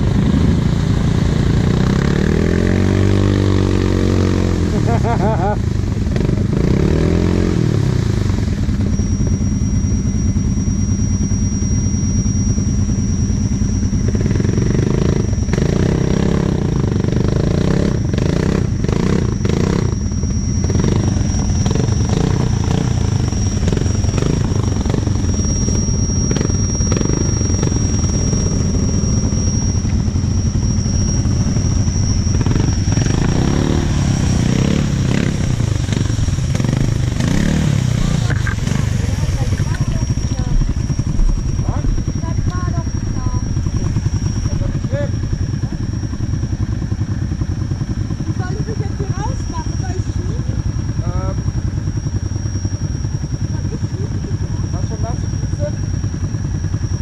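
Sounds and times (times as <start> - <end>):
atv engine running: 0.0 - 57.0
high steady whine: 0.0 - 57.0.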